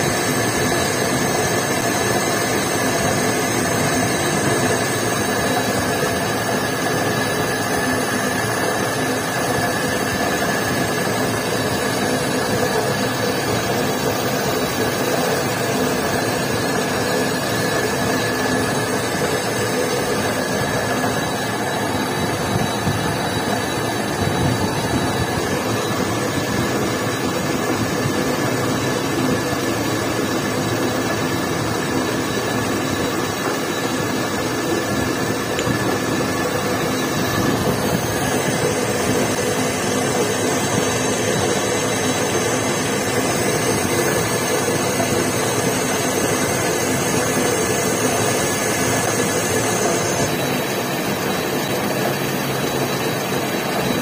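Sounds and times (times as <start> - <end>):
metal lathe running: 0.0 - 54.0.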